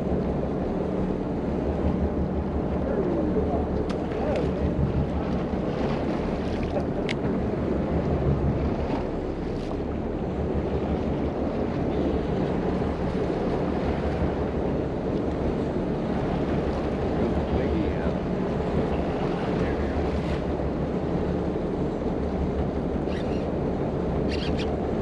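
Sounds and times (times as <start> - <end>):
water washing against boat hull: 0.0 - 25.0
wind buffeting microphone: 0.0 - 25.0.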